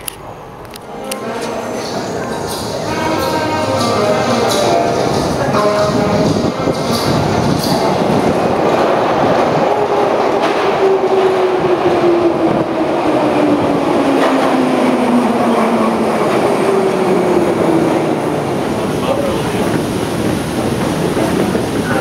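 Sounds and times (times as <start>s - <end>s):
higher train whine: 0.0s - 22.0s
train wheels rumbling on rail: 0.0s - 22.0s.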